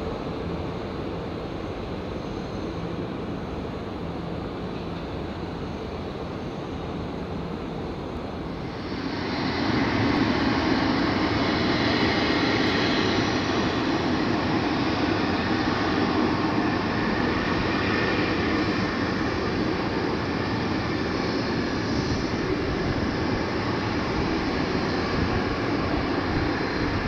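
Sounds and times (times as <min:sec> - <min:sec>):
jet engine hum: 0:00.0 - 0:27.0
jet engine noise with whine: 0:00.0 - 0:27.0.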